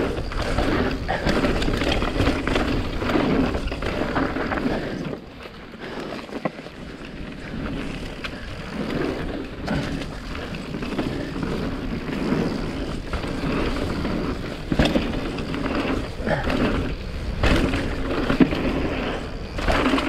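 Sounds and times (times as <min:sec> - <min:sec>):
bike rattling: 0:00.0 - 0:20.0
tyres rolling on dirt: 0:00.0 - 0:20.0.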